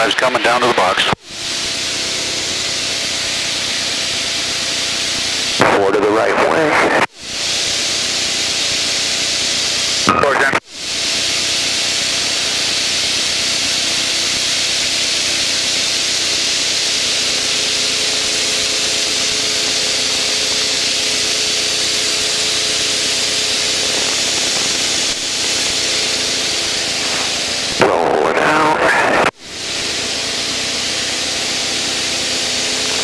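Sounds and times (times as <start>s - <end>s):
aircraft engine drone: 0.0s - 33.0s
wind and engine hiss: 0.0s - 33.0s.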